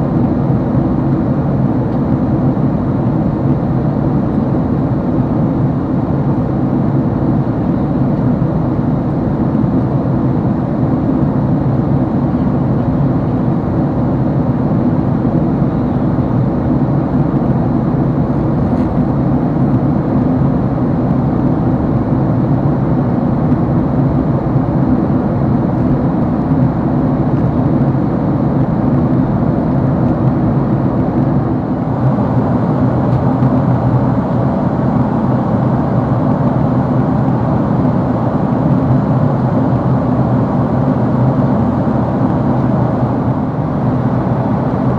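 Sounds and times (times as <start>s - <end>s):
airliner cabin rumble: 0.0s - 44.9s.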